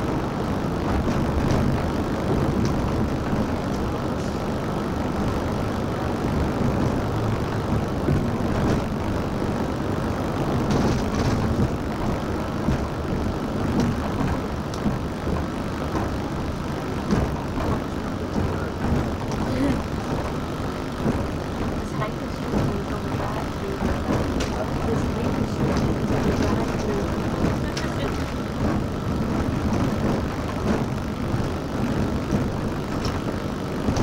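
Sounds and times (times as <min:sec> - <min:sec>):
bus engine and road noise: 0:00.0 - 0:34.0
faint cabin clicks and rattles: 0:00.0 - 0:34.0.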